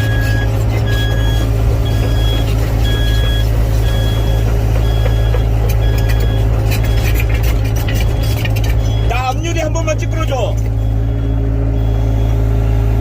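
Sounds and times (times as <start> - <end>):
reverse alarm beeping: 0.0 - 7.2, 8.0 - 13.0
diesel engine running: 0.0 - 13.0.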